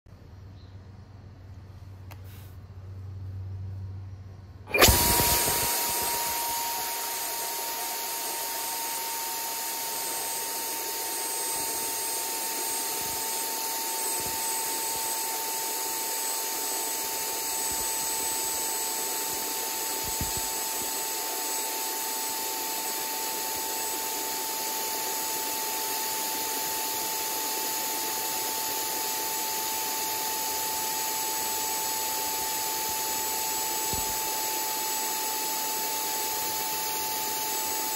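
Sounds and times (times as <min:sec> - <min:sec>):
electric ducted fan whining: 0:00.2 - 0:37.9.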